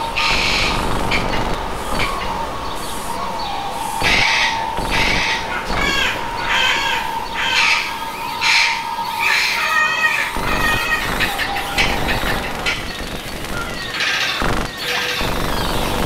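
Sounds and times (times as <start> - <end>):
parrots squawking: 0.0 - 16.0.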